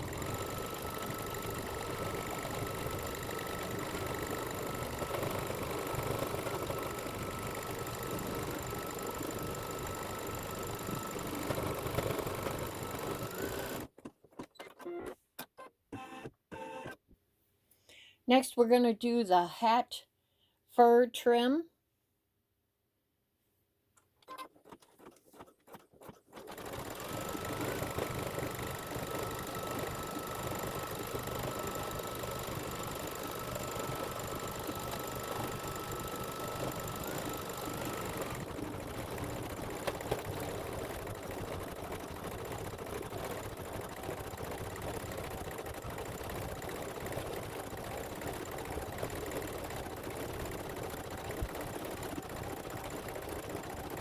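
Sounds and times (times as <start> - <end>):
embroidery machine stitching: 0.0 - 15.2, 24.2 - 54.0.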